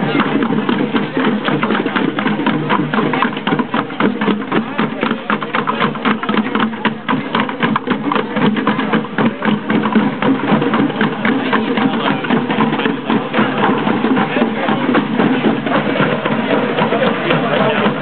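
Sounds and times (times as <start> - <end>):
street drummers playing: 0.0 - 18.0.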